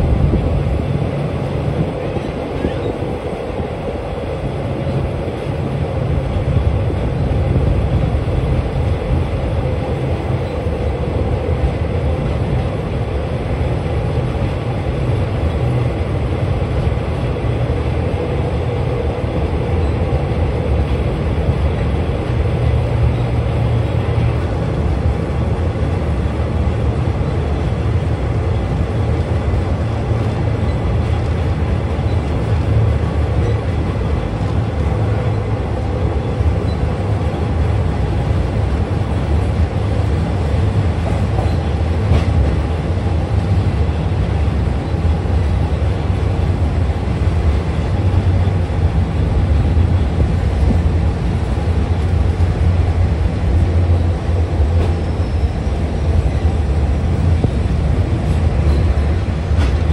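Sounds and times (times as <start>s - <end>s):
low rumble of train wheels: 0.0s - 59.9s.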